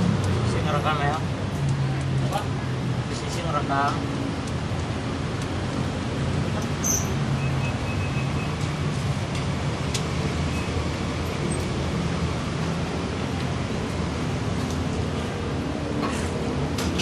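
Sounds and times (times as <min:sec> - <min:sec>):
petrol engine running steadily: 0:00.0 - 0:17.0.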